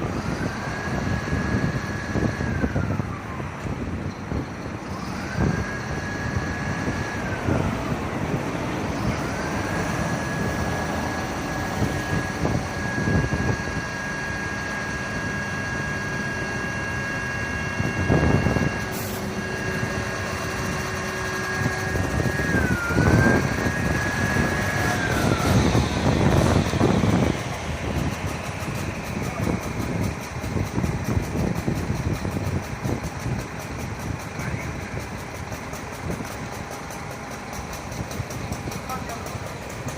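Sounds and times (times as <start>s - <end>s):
fire engine siren wailing: 0.0s - 33.4s
road noise: 0.0s - 39.9s
truck engine: 0.0s - 39.9s.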